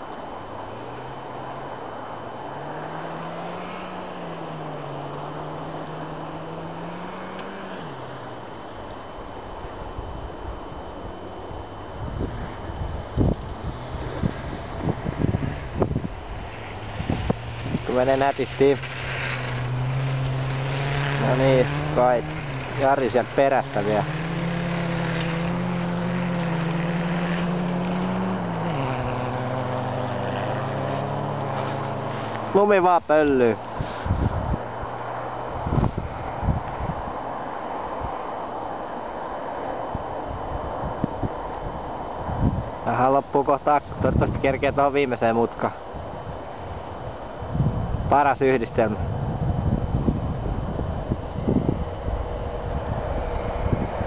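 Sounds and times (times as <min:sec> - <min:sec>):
distant rally car engine: 0:00.0 - 0:54.0.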